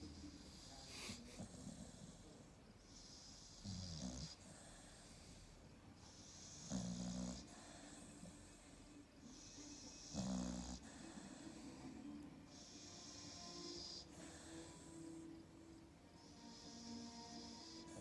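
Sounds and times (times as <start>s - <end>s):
dog snoring: 0.0s - 18.0s.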